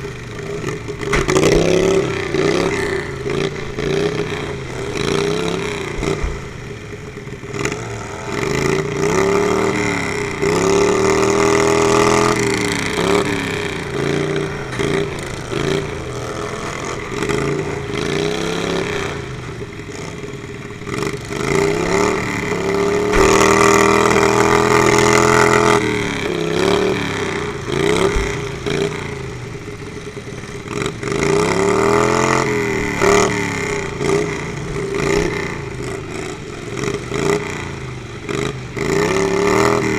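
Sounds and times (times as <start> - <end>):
lawnmower engines revving: 0.0 - 39.9.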